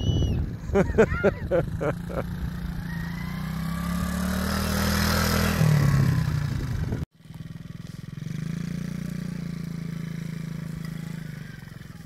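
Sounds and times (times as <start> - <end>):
quad bike engine running: 1.0 - 12.0.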